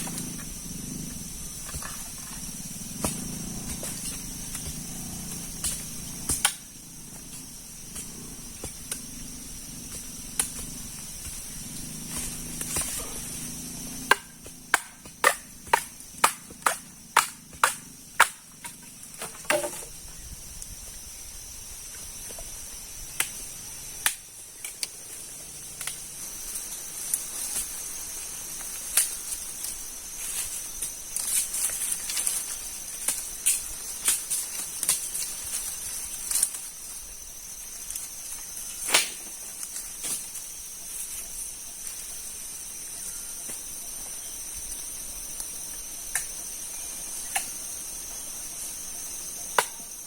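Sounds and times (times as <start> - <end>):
high-pitched insect chorus: 0.0 - 50.0.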